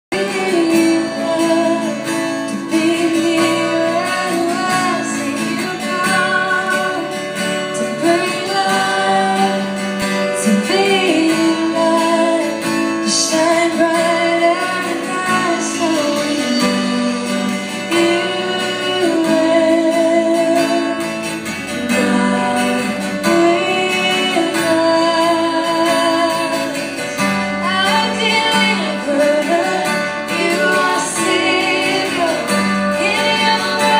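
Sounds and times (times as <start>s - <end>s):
strummed acoustic guitar: 0.1s - 33.9s
woman singing lead: 0.1s - 33.9s
worship band playing: 0.1s - 33.9s.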